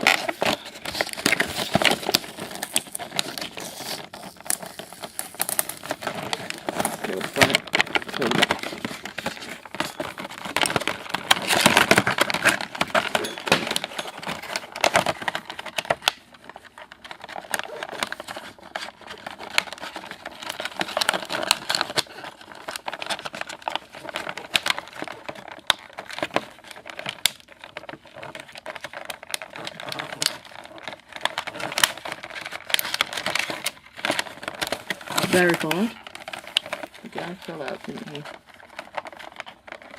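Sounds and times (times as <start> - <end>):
packaging rustling and crinkling: 0.0 - 39.9.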